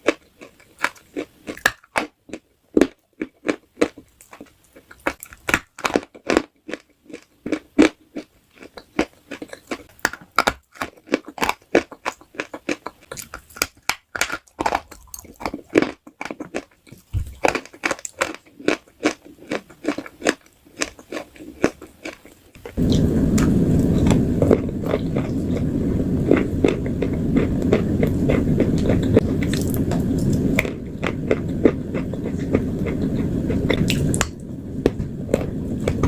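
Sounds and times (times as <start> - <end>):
crunching and chewing crisp food: 0.0 - 36.0.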